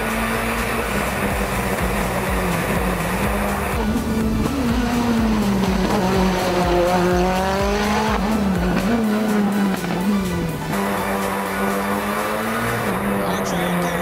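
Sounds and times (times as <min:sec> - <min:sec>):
music: 0:00.0 - 0:14.0
rally car engine revving: 0:00.0 - 0:14.0.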